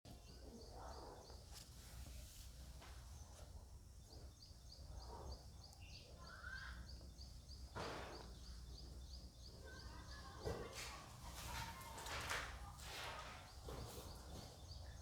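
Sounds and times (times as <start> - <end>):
faint background noise: 0.1 - 15.0.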